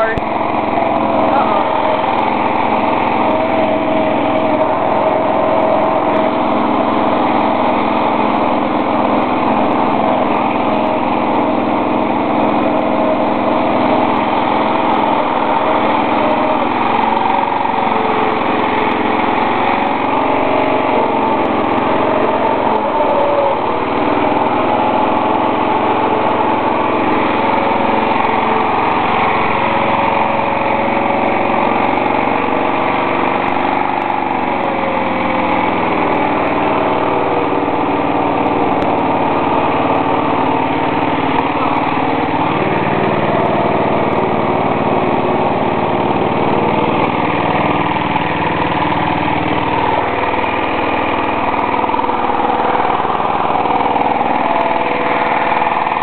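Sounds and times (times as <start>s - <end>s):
small gasoline engine running: 0.0s - 56.0s.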